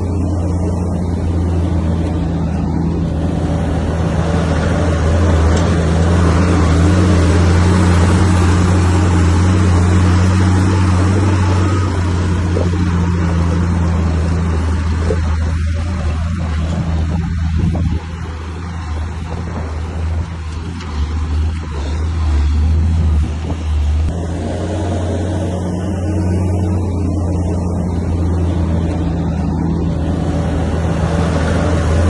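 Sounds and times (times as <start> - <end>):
heavy machinery diesel engine: 0.0 - 32.0.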